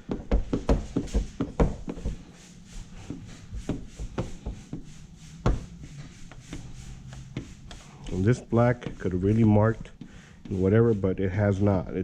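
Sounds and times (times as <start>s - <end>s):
knocks and rubs: 0.0s - 11.9s
squeegee rubbing strokes: 0.0s - 12.0s.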